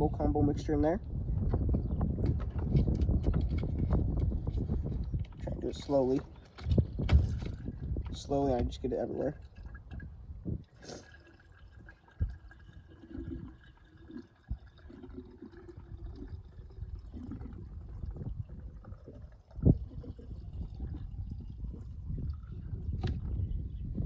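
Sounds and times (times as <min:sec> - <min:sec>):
fuel pouring into tank: 0:02.5 - 0:23.5.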